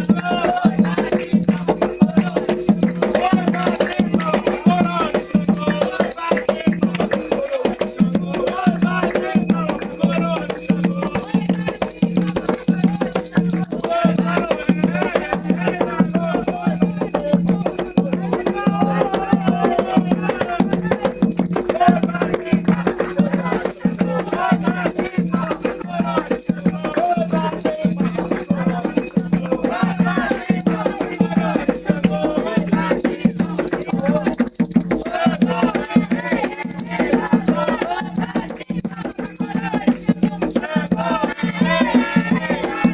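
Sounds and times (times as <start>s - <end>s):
steady drum beat: 0.0s - 42.9s
voices singing: 0.0s - 42.9s.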